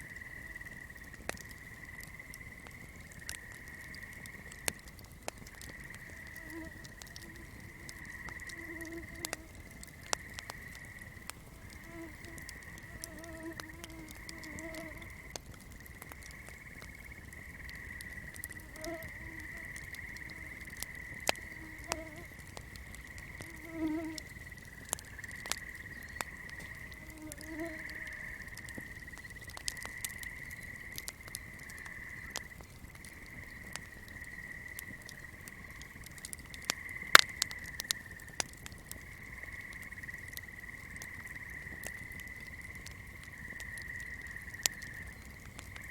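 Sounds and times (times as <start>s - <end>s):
low frog croaks: 0.0s - 45.9s.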